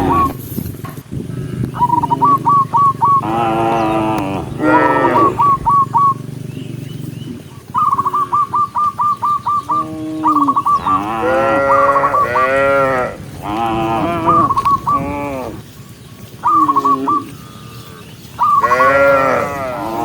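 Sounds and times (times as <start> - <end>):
cows mooing: 0.0 - 0.5, 1.2 - 8.2, 9.6 - 20.0
low steady hum: 0.0 - 20.0
high repeated chirping: 1.4 - 19.2.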